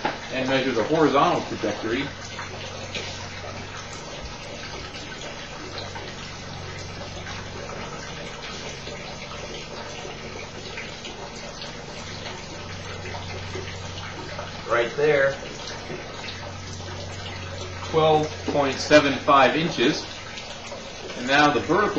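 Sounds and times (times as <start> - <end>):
low steady hum: 0.0 - 21.9
water jet splashing into tub: 0.0 - 21.9.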